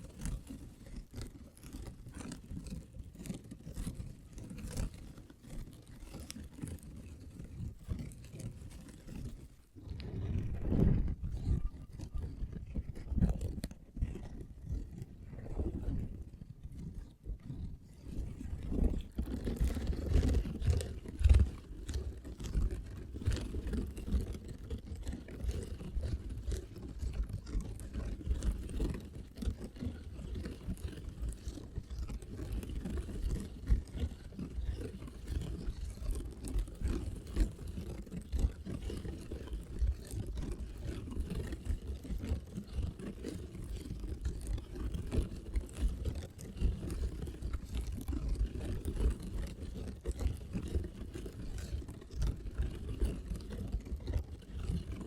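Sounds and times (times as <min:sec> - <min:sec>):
fingertips tapping and scratching: 0:00.0 - 0:15.1, 0:18.1 - 0:50.2.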